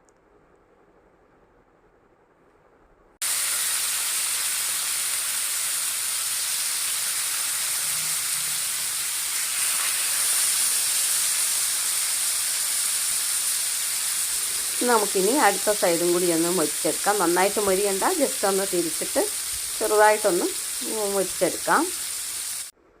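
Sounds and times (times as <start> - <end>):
fish sizzling in oil: 3.2 - 22.8.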